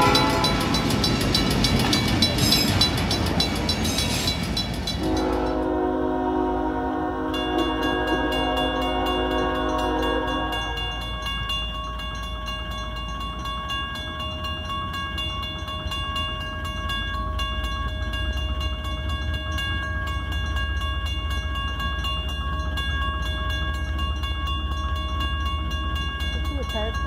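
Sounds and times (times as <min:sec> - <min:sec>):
mechanical crossing bell ringing: 0:00.0 - 0:05.8, 0:07.2 - 0:27.0.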